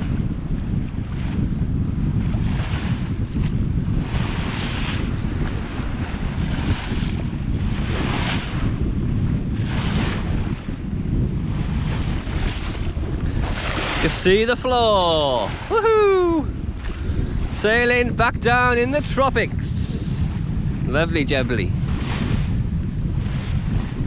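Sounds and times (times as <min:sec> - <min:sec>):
water rushing along hull: 0:00.0 - 0:24.0
wind buffeting microphone: 0:00.0 - 0:24.0.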